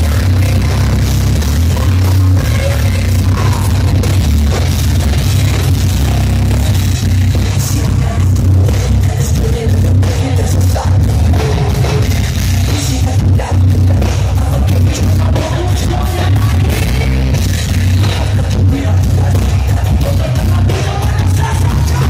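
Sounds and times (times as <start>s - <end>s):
person singing: 0.0s - 12.1s, 12.7s - 17.4s, 18.1s - 22.0s
live heavy metal band: 0.0s - 22.0s.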